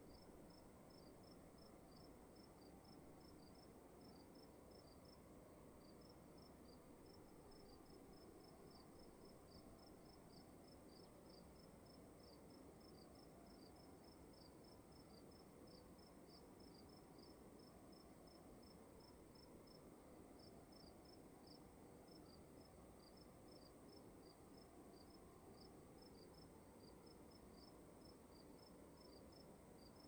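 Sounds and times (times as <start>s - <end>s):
cricket chirping: 0.0s - 5.2s, 5.8s - 30.0s
low room hiss: 0.0s - 30.0s.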